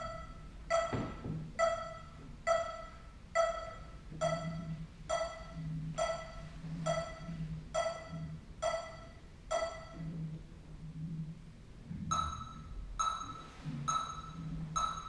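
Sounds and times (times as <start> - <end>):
metronome beeping: 0.0 - 10.3, 12.1 - 15.0.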